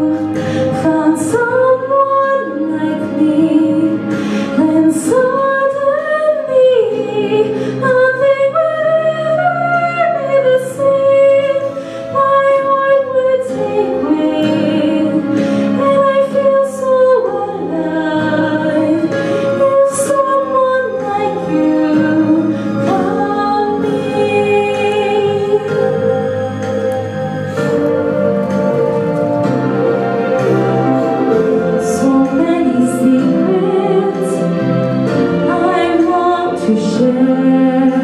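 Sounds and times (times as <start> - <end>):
woman singing a ballad: 0.0 - 28.2, 31.3 - 38.0
instrumental accompaniment: 0.0 - 38.0.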